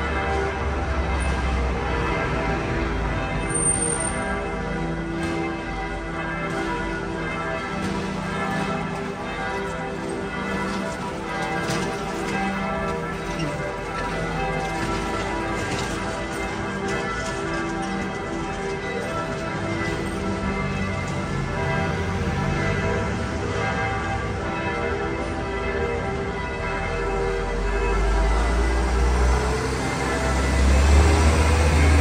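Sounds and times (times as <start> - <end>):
church bells pealing: 0.0 - 32.0.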